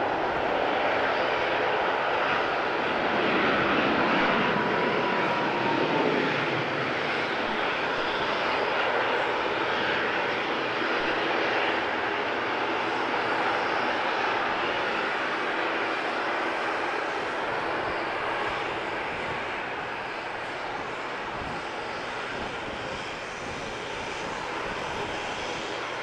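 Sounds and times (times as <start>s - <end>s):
jet engine roar: 0.0s - 26.0s.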